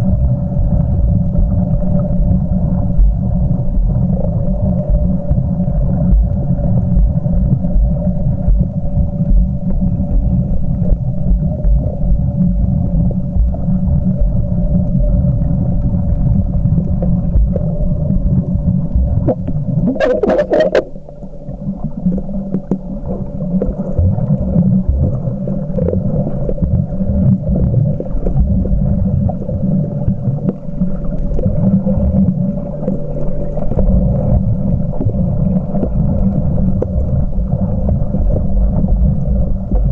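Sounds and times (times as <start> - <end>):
faint steady hum: 0.0 - 39.9
muffled underwater rumble: 0.0 - 39.9.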